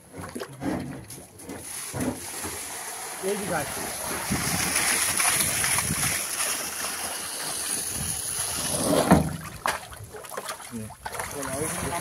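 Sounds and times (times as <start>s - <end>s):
water pouring onto grass: 1.6s - 12.0s.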